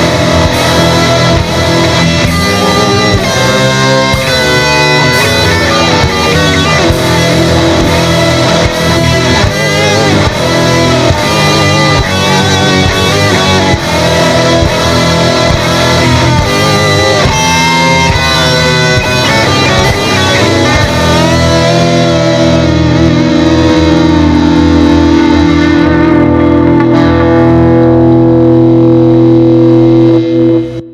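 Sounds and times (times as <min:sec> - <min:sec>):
distorted electric guitar chord: 0:00.0 - 0:30.9
instrumental rock music: 0:00.0 - 0:30.9.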